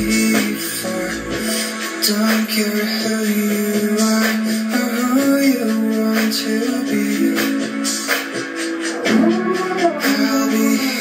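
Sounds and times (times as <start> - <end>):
song from speakers: 0.0 - 11.0.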